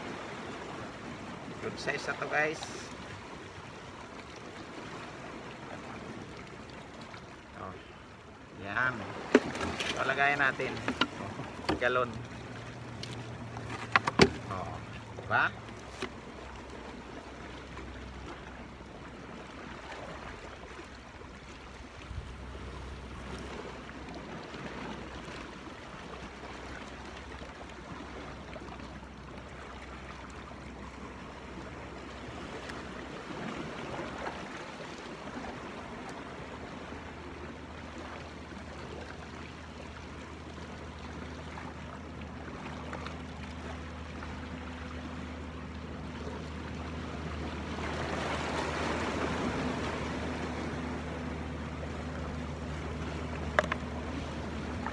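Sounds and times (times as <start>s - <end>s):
sea water lapping against rocks: 0.0s - 54.9s.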